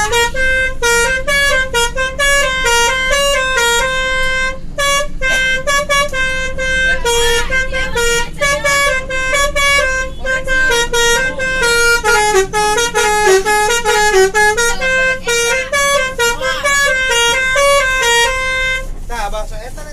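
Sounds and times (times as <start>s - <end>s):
low engine hum: 0.0s - 19.9s
multi-tone bus horn melody: 0.0s - 19.9s.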